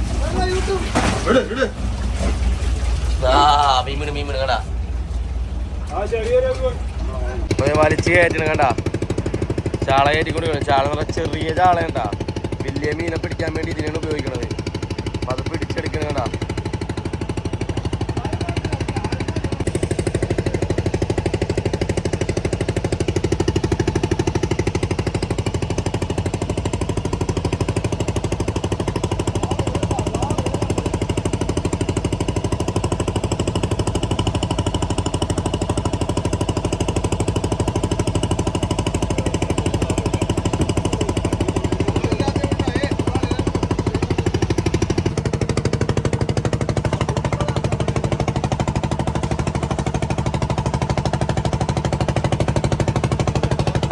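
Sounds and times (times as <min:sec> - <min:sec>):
boat engine chugging: 0:00.0 - 0:53.9.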